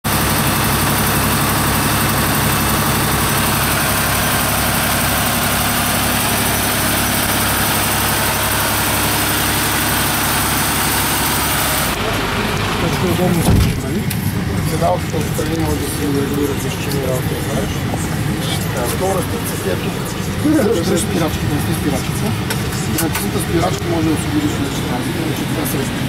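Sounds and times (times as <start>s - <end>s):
diesel truck engine idling: 0.1s - 26.0s.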